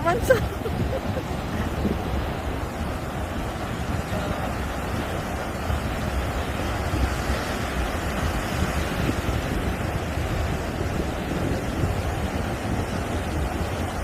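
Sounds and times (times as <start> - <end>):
waves washing on rocky shore: 0.0 - 14.0
wind on microphone: 0.0 - 14.0.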